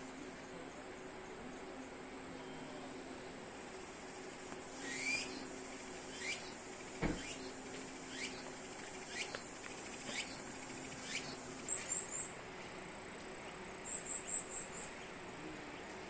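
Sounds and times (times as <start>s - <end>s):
insects trilling: 0.0s - 15.6s.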